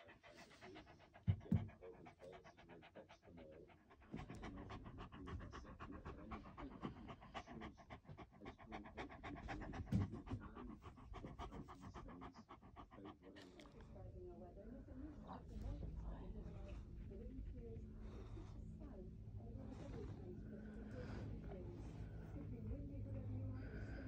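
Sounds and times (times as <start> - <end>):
dog panting rapidly: 0.0 - 24.0.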